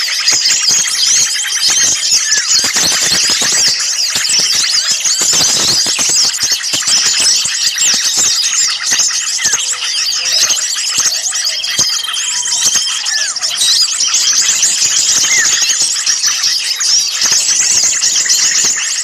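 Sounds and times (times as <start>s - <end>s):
chorus of small songbirds chirping: 0.0s - 19.0s.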